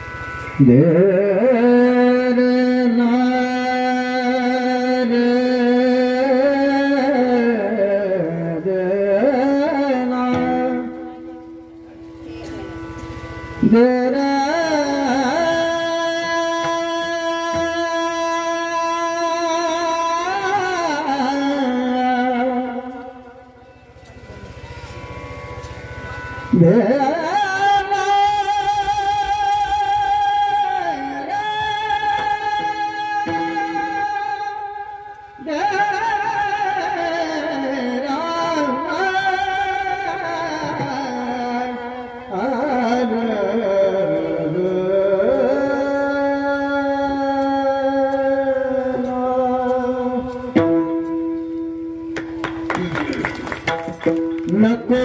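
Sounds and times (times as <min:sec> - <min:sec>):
man singing with vibrato: 0:00.0 - 0:52.1, 0:52.8 - 0:55.0
instrumental accompaniment: 0:00.0 - 0:55.0.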